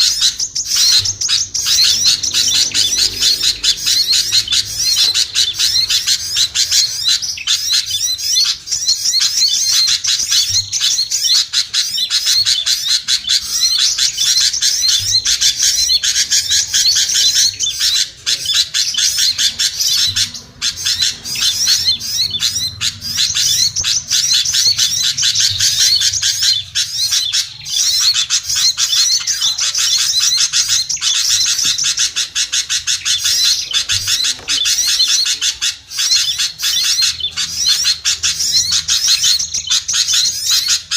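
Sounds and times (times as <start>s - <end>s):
small birds chirping chorus: 0.0s - 40.9s.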